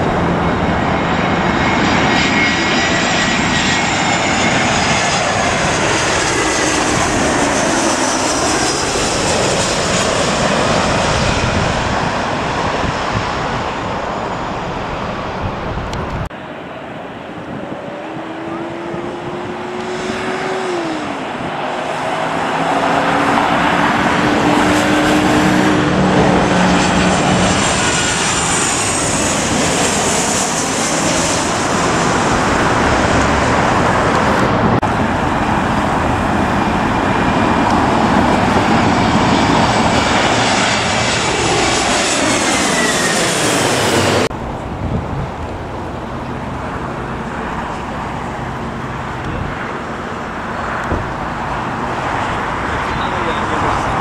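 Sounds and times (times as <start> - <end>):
jet airliner passing overhead: 0.0 - 54.0
road traffic noise: 0.0 - 54.0.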